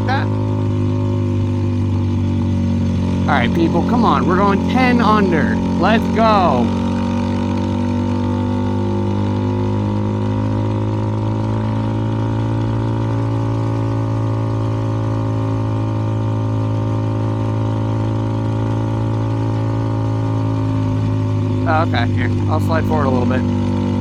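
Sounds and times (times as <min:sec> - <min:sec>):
motorcycle exhaust at steady throttle: 0:00.0 - 0:24.0.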